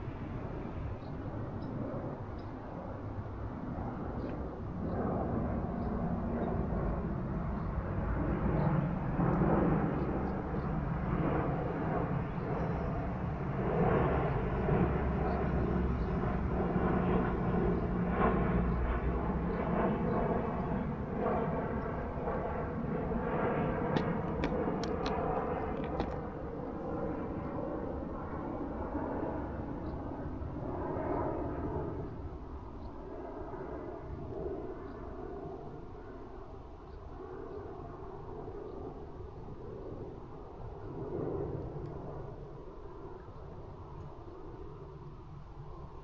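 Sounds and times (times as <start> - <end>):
aircraft engine drone: 0.0 - 46.0.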